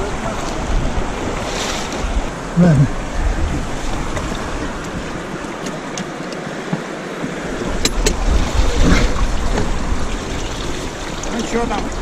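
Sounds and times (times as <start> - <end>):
river water rushing and splashing: 0.0 - 12.0.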